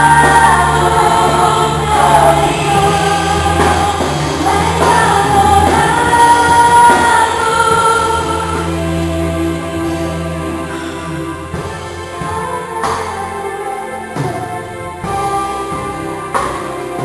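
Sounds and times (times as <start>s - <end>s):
group singing gospel song: 0.0s - 17.0s
sustained low accompaniment: 0.0s - 17.0s.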